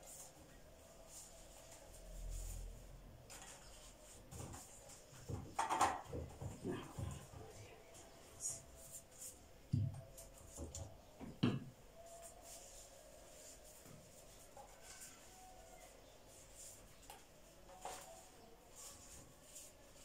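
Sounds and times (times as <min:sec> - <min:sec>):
pastry sheets rubbing and rustling: 0:00.0 - 0:05.7, 0:06.6 - 0:11.1, 0:12.0 - 0:20.0.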